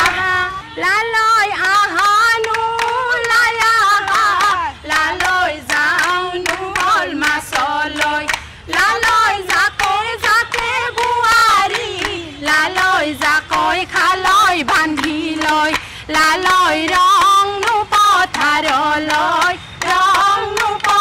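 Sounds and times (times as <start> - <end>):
rhythmic hand clapping: 0.0 - 21.0
women singing folk song: 0.0 - 21.0.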